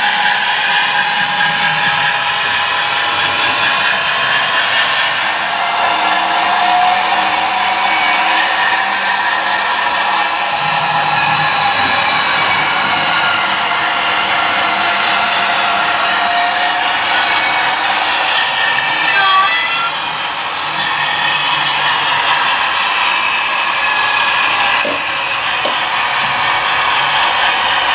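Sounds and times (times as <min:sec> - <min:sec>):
small electric motors whining: 0:01.2 - 0:27.9.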